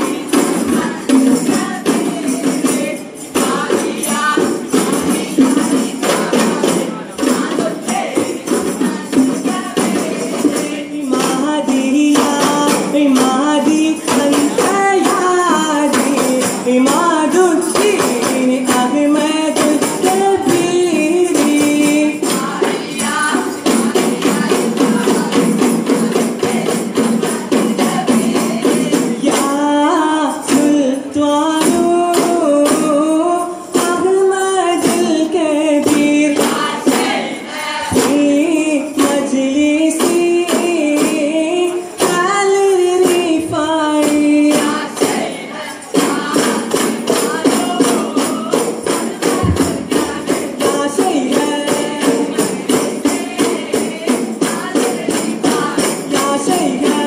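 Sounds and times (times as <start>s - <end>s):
frame drums beating: 0.0s - 57.0s
voices singing in unison: 0.0s - 57.0s.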